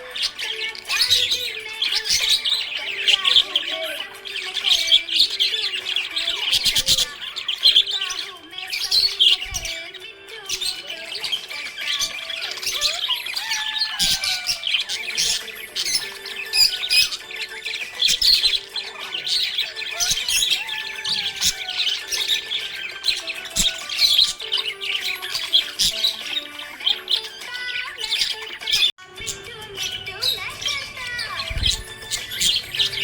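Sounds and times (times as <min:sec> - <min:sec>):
budgerigar squawks: 0:00.0 - 0:28.9
budgerigars chirping and chattering: 0:00.0 - 0:33.0.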